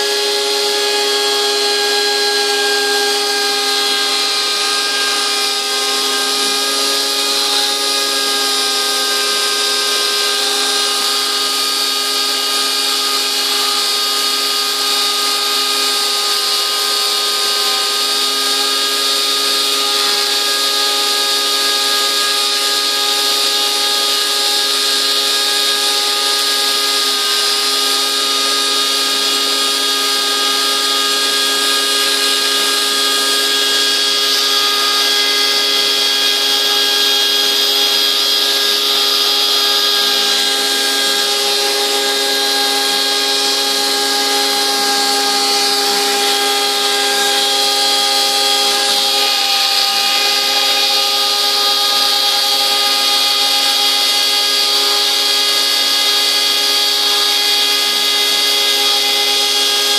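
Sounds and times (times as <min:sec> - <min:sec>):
router spindle whining: 0:00.0 - 0:59.9.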